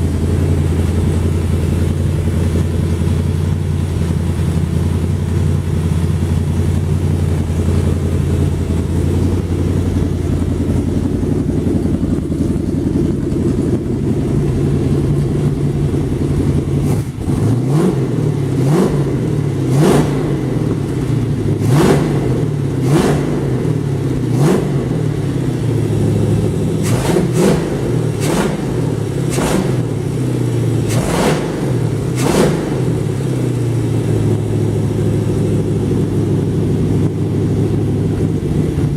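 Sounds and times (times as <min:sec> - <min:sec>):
engine idling and revving: 0:00.0 - 0:38.9.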